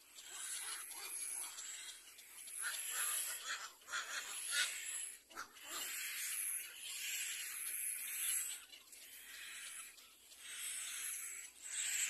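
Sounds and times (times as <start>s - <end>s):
chicks giving raspy hissing calls: 0.0s - 12.0s.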